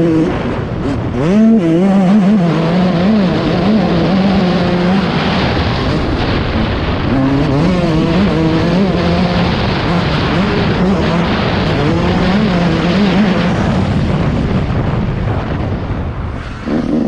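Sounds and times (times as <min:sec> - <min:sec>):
motocross engine revving: 0:00.0 - 0:14.9, 0:16.6 - 0:17.0
rush of noise: 0:00.0 - 0:17.0.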